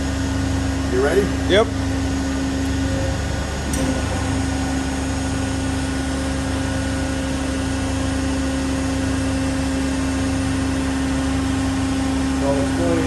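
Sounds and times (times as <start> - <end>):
machine drive humming: 0.0 - 13.0.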